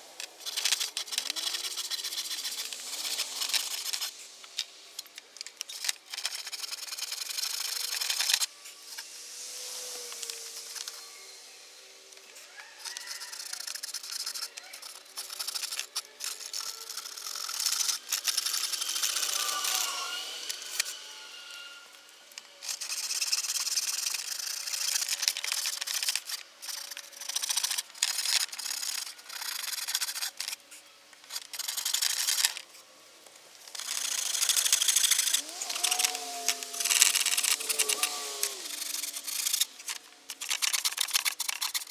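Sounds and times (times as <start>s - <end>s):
handsaw cutting wood: 0.0s - 4.3s, 5.8s - 11.2s, 12.5s - 30.6s, 33.6s - 41.9s.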